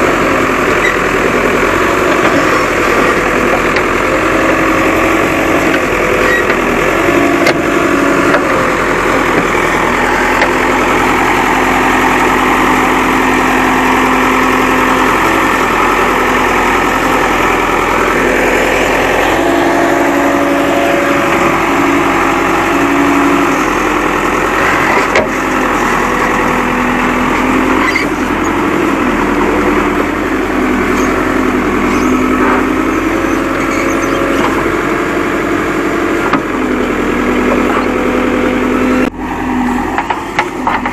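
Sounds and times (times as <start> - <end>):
diesel engine working under load: 0.0 - 40.9.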